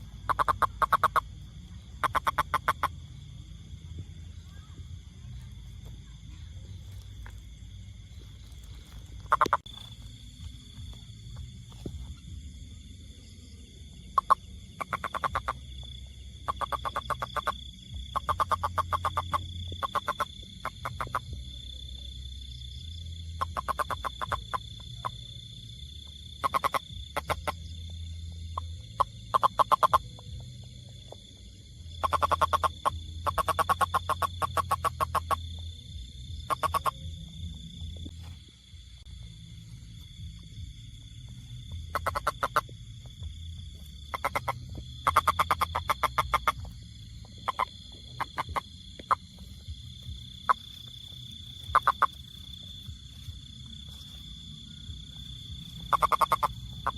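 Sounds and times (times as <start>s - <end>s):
frog croaking trills: 0.0s - 3.8s, 6.8s - 39.8s, 40.4s - 56.9s.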